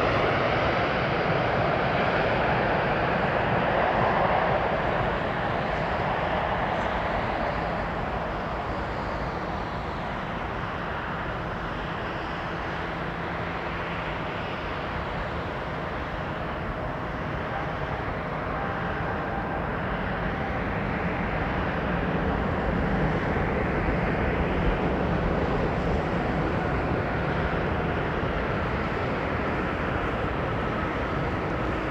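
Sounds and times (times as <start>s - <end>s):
faint engine whine: 0.0s - 31.9s
jet airliner rushing rumble: 0.0s - 31.9s.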